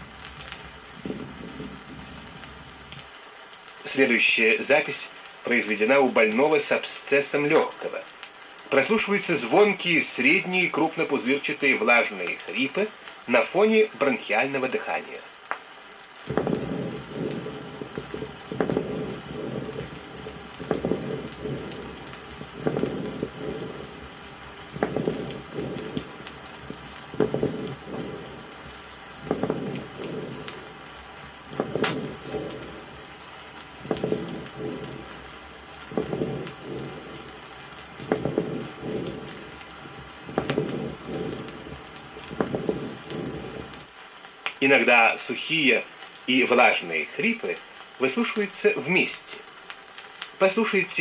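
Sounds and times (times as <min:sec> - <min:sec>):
bronchial breathing with crackles: 0:00.0 - 0:50.7.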